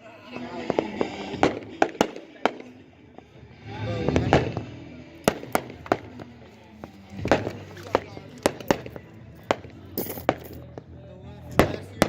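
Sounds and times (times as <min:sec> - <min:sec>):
fireworks bangs: 0:00.4 - 0:10.9.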